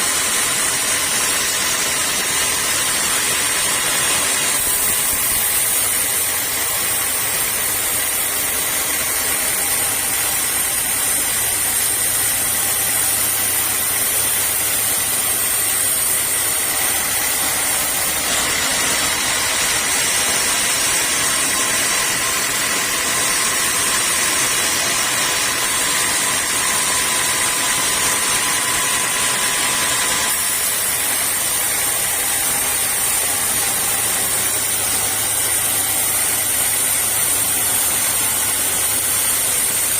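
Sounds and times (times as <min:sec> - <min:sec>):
sawmill saw hissing: 0:00.0 - 0:39.9.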